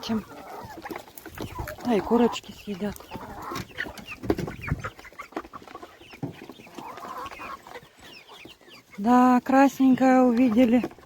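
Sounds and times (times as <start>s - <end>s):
chickens and turkeys clucking: 0.0s - 11.0s.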